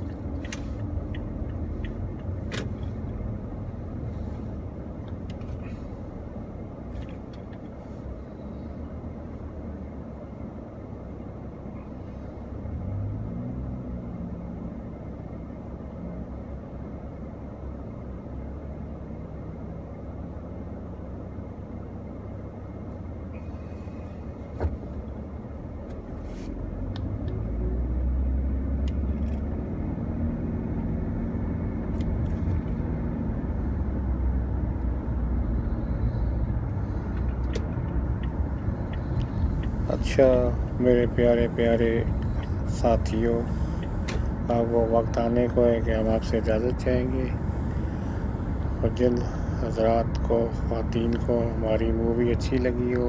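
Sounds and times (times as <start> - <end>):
car engine running: 0.0 - 53.0
road rumble: 0.0 - 53.0.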